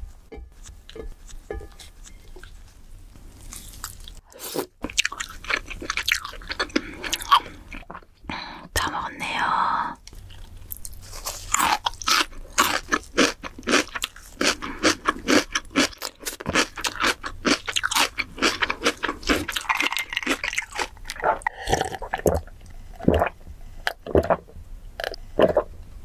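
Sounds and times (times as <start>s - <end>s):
crisp crunching and chewing: 0.6s - 8.0s, 10.1s - 24.3s.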